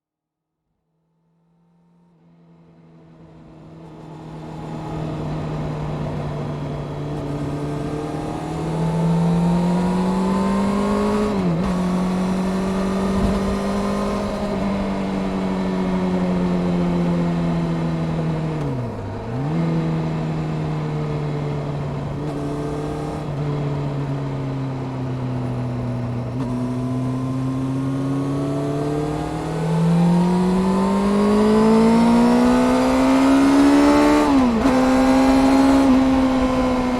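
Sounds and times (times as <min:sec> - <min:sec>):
motorcycle engine running: 0:03.2 - 0:36.9.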